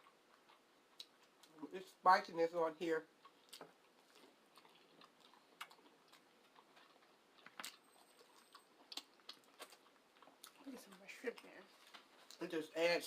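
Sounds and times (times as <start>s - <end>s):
close-up chewing: 0.0s - 12.5s.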